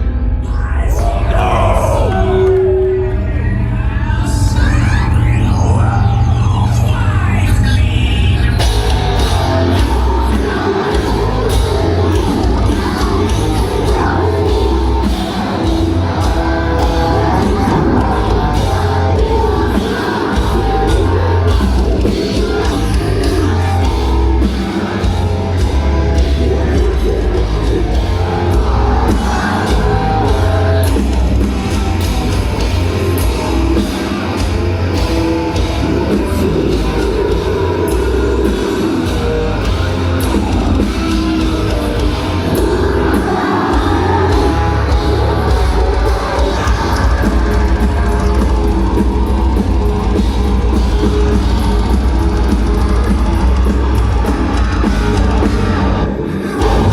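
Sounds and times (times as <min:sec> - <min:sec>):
heavy metal band playing live: 0:00.0 - 0:56.9.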